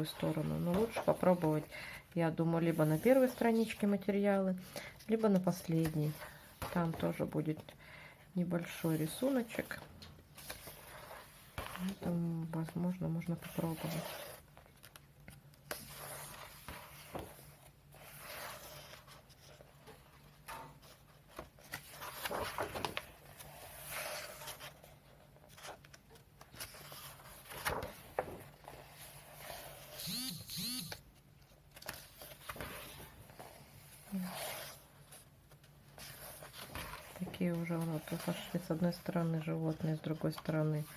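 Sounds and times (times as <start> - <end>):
book pages turning: 0.0 - 1.7, 8.8 - 40.9.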